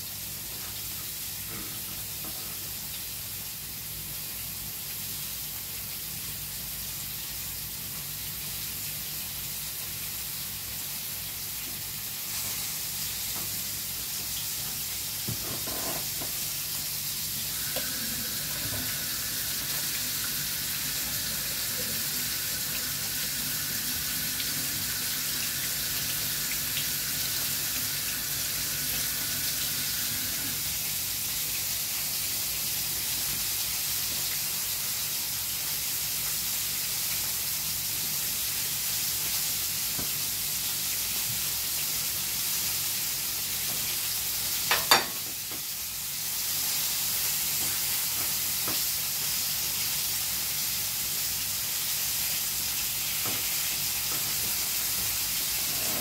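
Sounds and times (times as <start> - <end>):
food sizzling in frying pan: 0.0 - 56.0.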